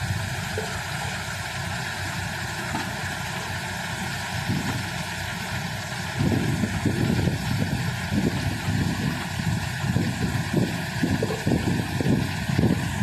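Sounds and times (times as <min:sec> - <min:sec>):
thresher rumbling: 0:00.0 - 0:13.0.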